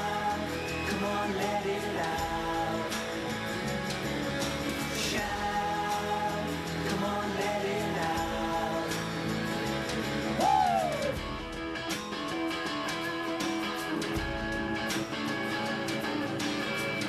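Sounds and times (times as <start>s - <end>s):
strummed acoustic guitar band music: 0.0s - 17.0s.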